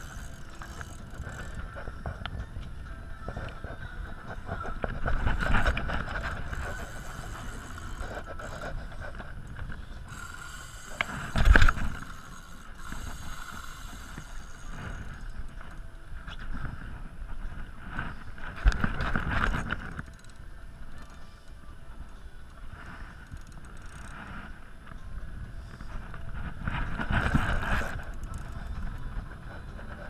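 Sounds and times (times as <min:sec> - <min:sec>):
boat rocking on choppy water: 0:00.0 - 0:30.0
wind on microphone: 0:00.0 - 0:30.0.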